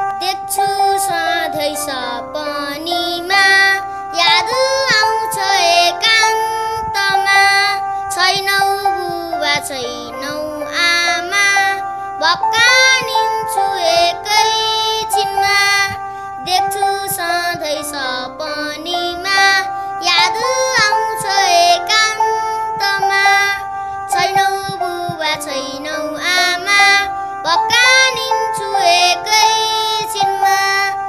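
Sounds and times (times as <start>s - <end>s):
boy singing: 0.0s - 31.0s
held instrumental chords: 0.0s - 31.0s.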